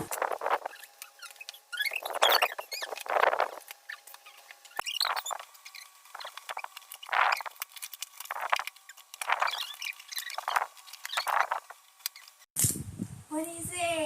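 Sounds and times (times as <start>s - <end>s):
packaging crinkling and rustling: 0.0s - 12.5s.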